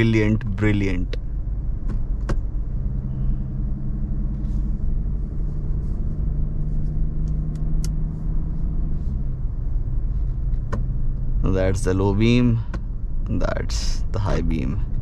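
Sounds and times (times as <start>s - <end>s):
engine and road noise in car: 0.0s - 15.0s.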